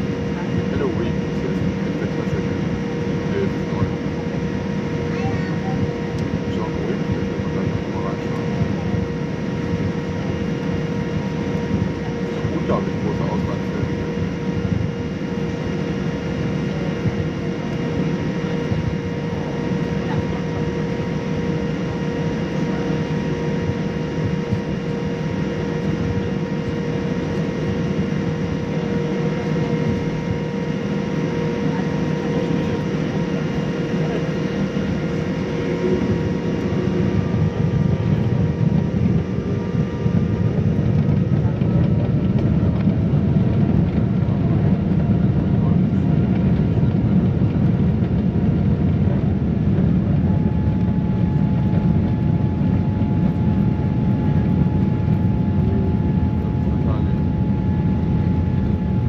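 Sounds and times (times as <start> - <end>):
aircraft cabin hum: 0.0 - 59.0
faint rising engine whine: 0.0 - 59.0
low rumble: 0.0 - 59.0.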